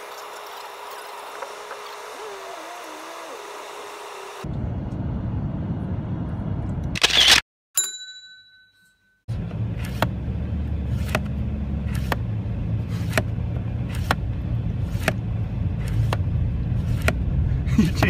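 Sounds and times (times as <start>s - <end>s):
car engine rumble: 0.0s - 7.0s, 9.3s - 18.0s.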